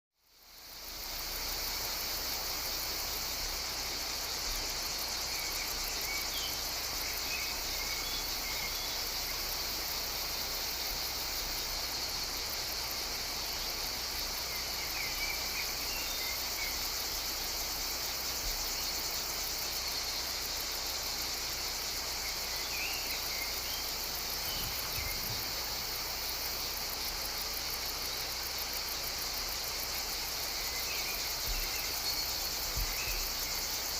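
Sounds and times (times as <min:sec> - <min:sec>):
insects buzzing chorus: 0:00.2 - 0:33.9.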